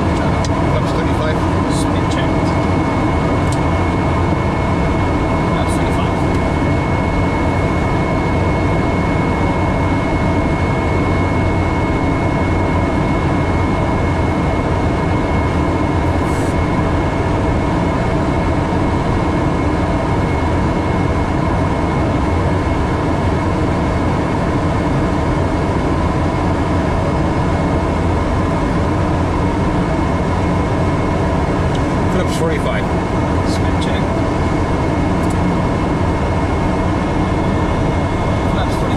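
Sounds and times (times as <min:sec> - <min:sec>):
engine rumble: 0:00.0 - 0:38.9
high-pitched whine: 0:00.0 - 0:38.9.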